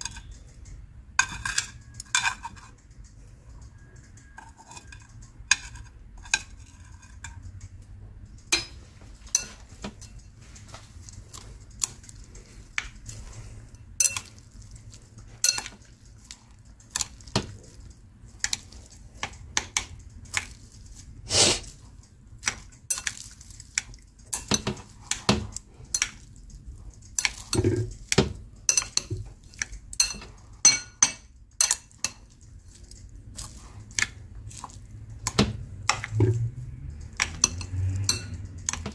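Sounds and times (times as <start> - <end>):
utensil clinking against bowl: 0.0 - 7.6, 8.4 - 20.7, 22.4 - 38.9.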